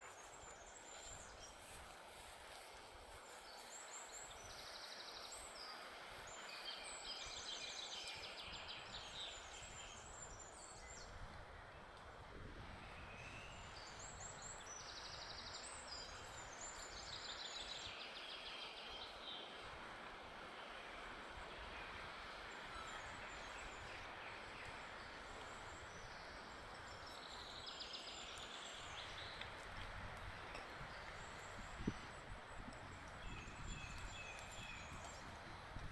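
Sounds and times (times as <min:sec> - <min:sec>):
soft steady breeze: 0:00.0 - 0:35.9
songbirds trilling song: 0:03.3 - 0:11.9, 0:12.8 - 0:19.6, 0:20.6 - 0:29.6, 0:30.2 - 0:35.5.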